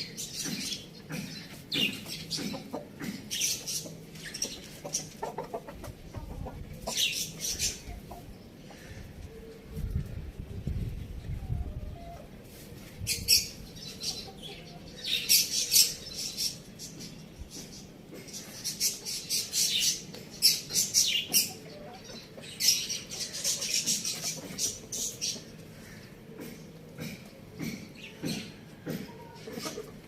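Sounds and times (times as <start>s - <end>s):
small birds chirping: 0.0s - 12.2s, 12.9s - 30.0s.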